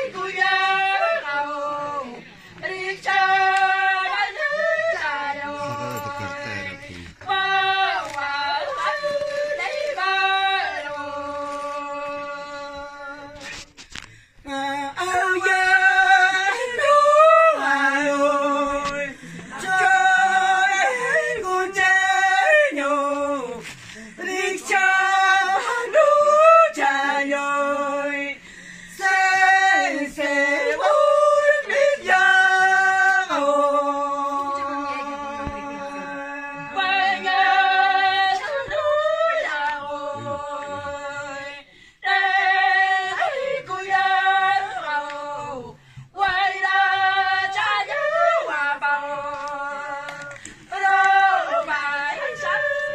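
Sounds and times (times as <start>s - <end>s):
women singing unaccompanied: 0.0s - 13.7s, 14.4s - 52.9s.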